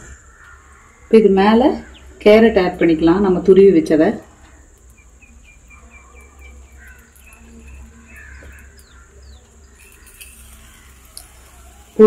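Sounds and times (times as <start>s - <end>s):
faint birds chirping: 0.0s - 12.0s
steady low hum: 0.0s - 12.0s.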